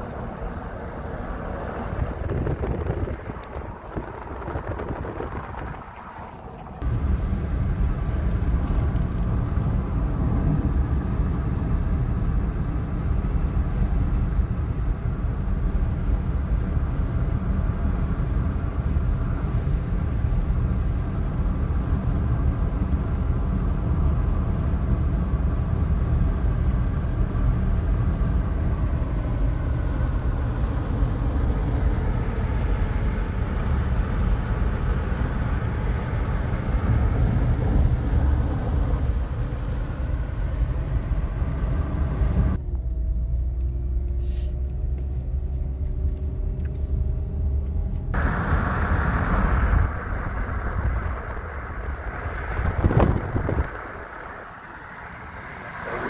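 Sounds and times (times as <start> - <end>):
car driving on highway: 0.0 - 56.0.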